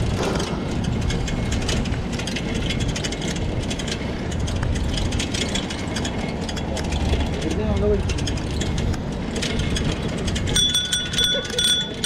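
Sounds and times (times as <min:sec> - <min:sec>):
bike basket rattling: 0:00.0 - 0:12.0
bike rolling rumble: 0:00.0 - 0:12.0.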